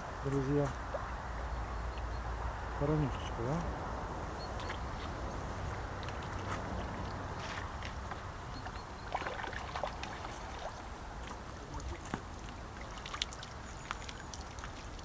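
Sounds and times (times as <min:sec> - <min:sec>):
water splashing and dripping: 0:00.2 - 0:02.8, 0:04.4 - 0:15.0.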